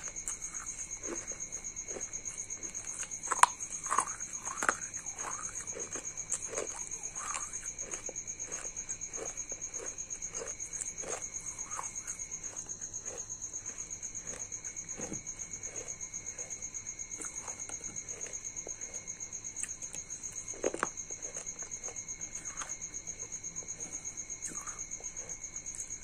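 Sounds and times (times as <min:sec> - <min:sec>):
crunching chewing: 0:00.0 - 0:26.0.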